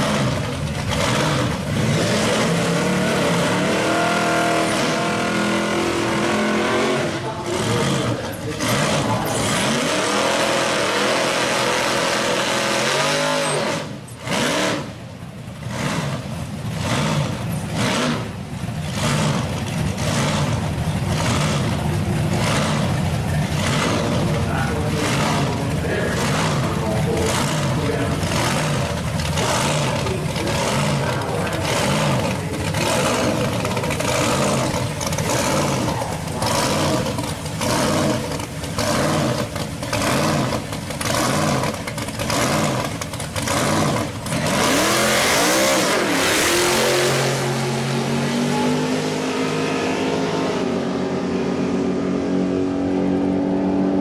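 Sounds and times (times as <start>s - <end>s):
engine idling with lopey pulse: 0.0s - 12.4s, 13.4s - 46.8s
engines revving hard: 0.0s - 54.0s.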